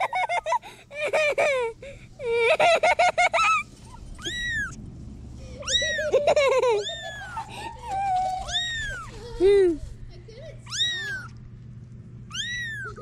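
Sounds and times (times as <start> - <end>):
kittens mewing: 0.0 - 4.8, 5.4 - 11.4, 12.3 - 13.0.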